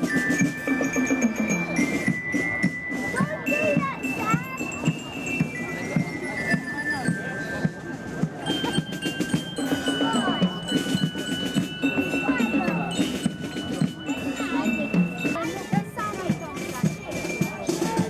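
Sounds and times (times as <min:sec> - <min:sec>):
crowd voices: 0:00.0 - 0:18.0
marching band drums: 0:00.0 - 0:18.0
ringing bell-like tones: 0:00.0 - 0:18.0.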